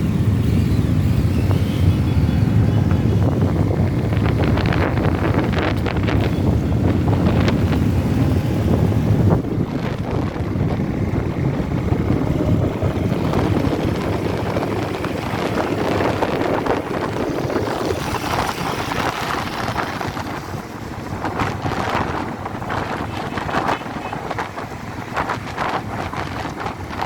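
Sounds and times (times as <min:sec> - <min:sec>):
motorcycles running: 0:00.0 - 0:27.0
wind buffeting microphone: 0:00.0 - 0:27.0.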